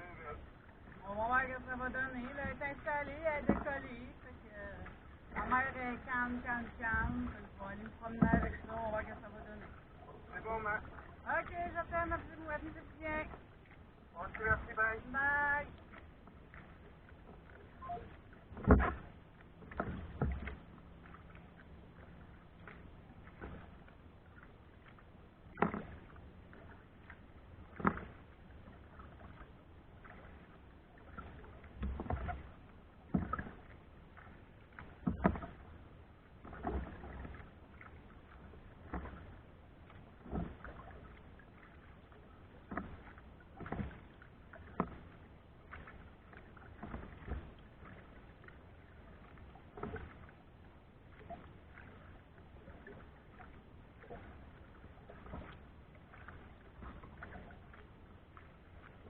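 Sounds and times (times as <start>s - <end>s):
paddle strokes splashing water: 0.0s - 59.0s.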